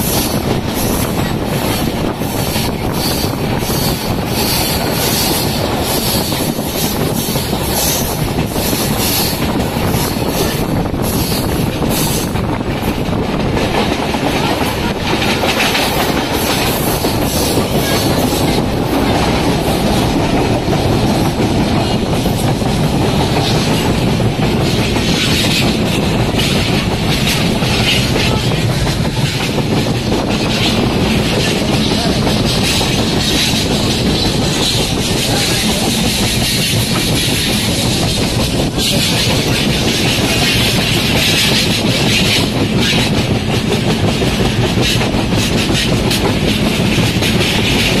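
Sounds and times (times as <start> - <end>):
train wheels on rails: 0.0 - 48.0.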